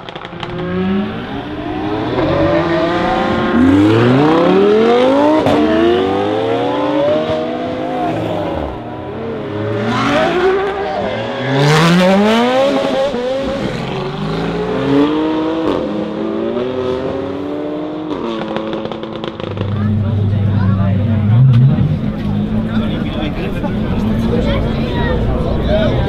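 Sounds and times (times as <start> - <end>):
sports cars accelerating hard: 0.0 - 26.0.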